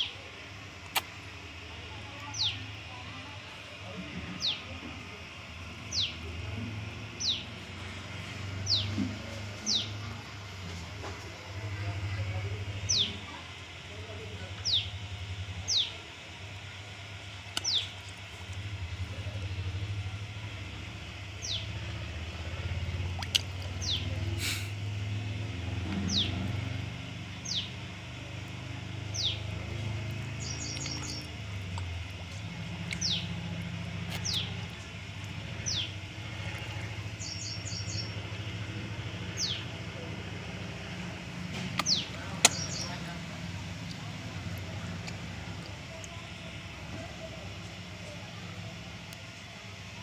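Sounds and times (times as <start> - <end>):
low hum: 0.0 - 50.0.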